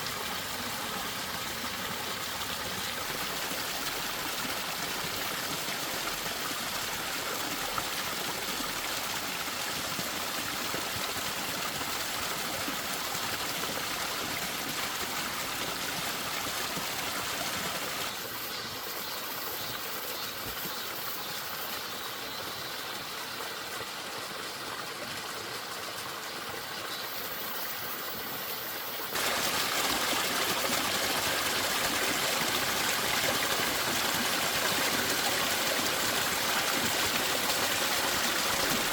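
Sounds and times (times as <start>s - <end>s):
stream rushing over rocks: 0.0s - 18.8s, 23.0s - 38.9s.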